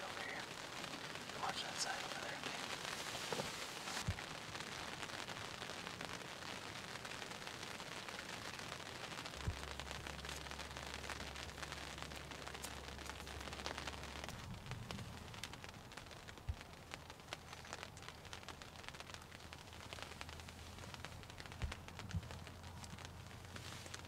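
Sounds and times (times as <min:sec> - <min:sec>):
rain pattering on leaves: 0:00.0 - 0:24.0.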